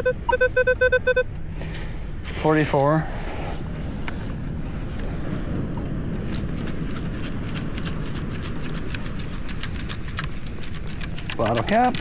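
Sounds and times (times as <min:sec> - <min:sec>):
wind rumble on microphone: 0:01.3 - 0:12.0.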